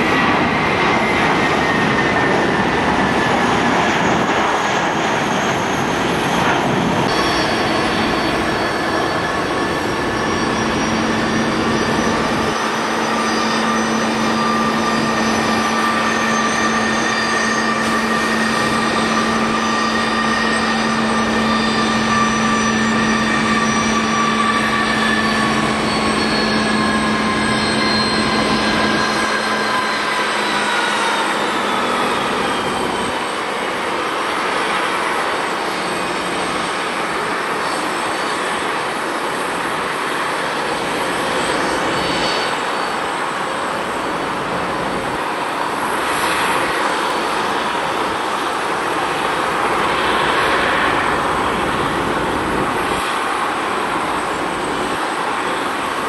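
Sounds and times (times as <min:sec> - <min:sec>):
jet engine whine: 0:00.0 - 0:56.0
steady jet engine rushing: 0:00.0 - 0:56.0.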